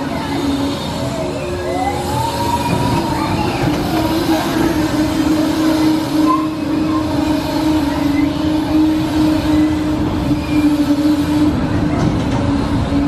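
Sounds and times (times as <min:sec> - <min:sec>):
fairground ride droning hum: 0:00.0 - 0:13.0.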